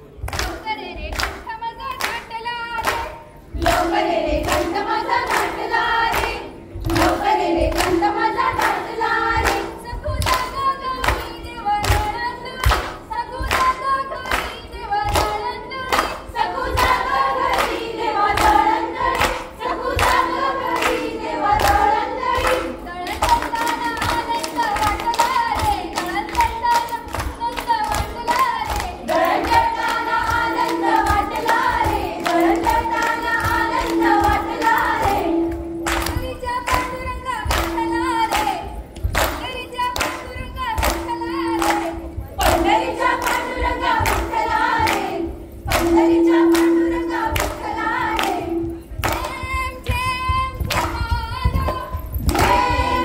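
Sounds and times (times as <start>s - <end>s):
rhythmic hand claps: 0.0s - 53.0s
women singing in chorus: 0.0s - 53.0s.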